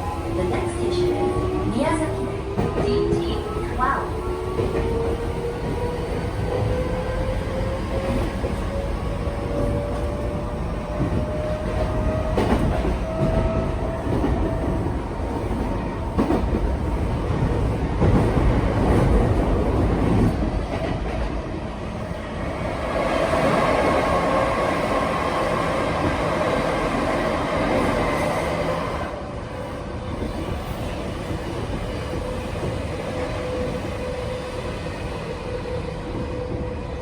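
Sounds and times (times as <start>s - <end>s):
hissing rumble of train: 0.0s - 37.0s.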